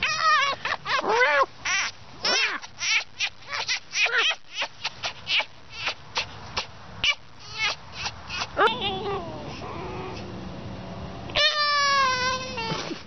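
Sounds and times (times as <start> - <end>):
fox whining and chattering: 0.0 - 10.4, 11.3 - 13.0.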